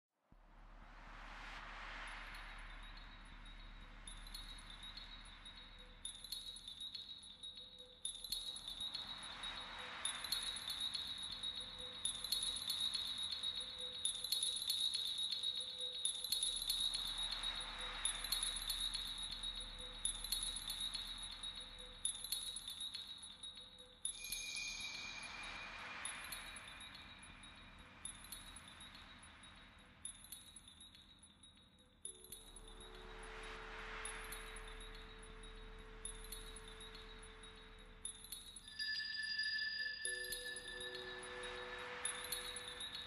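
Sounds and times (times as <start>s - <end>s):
tinkling chime-like tones: 2.1s - 43.0s.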